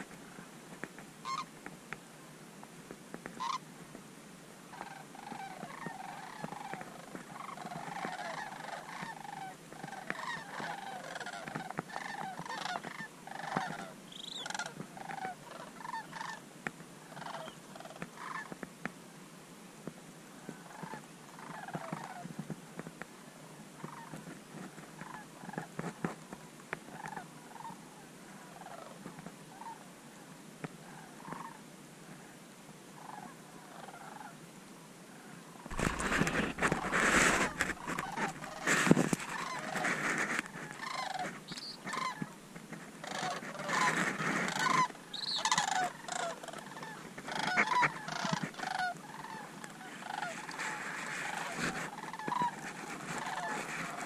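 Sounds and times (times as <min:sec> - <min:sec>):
cranes calling: 0:01.2 - 0:01.6, 0:03.3 - 0:03.7, 0:04.7 - 0:18.6, 0:20.4 - 0:22.5, 0:23.8 - 0:26.3, 0:26.9 - 0:29.8, 0:30.8 - 0:31.6, 0:33.0 - 0:34.4, 0:35.1 - 0:54.0.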